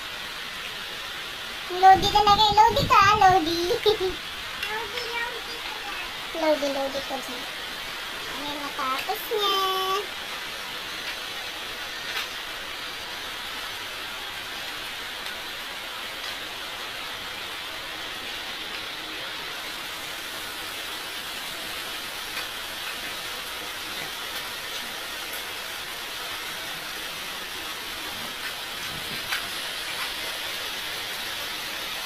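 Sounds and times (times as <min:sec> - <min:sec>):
steady hissing noise: 0:00.0 - 0:32.0.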